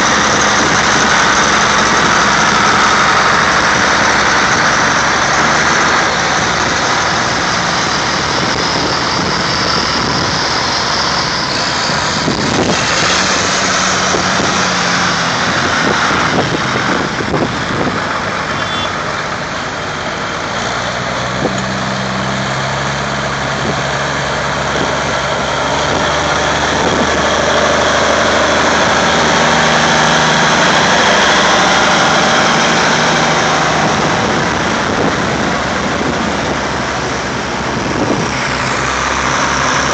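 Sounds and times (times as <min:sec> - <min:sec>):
tractor engines humming: 0:00.0 - 0:39.9.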